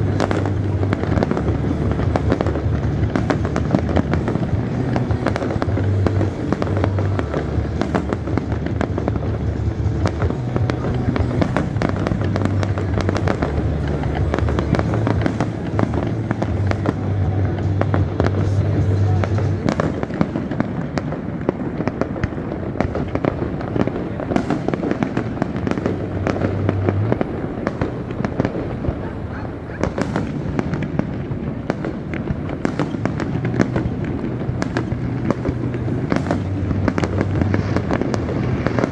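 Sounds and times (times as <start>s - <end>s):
fireworks bangs: 0.0s - 38.9s
fireworks crackling: 0.0s - 38.9s.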